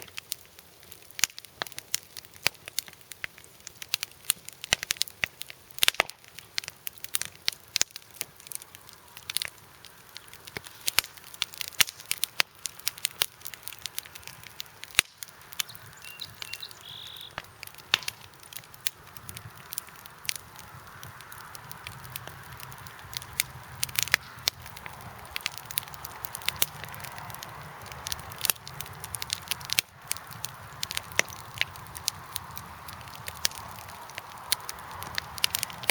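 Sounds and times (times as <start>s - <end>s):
campfire crackling: 0.0s - 35.9s.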